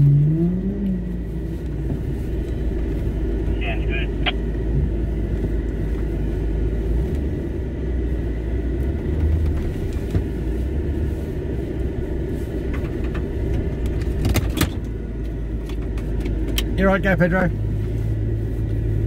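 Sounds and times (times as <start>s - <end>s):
engine rumble: 0.0s - 19.0s
tyres on dirt ruts: 0.0s - 19.0s.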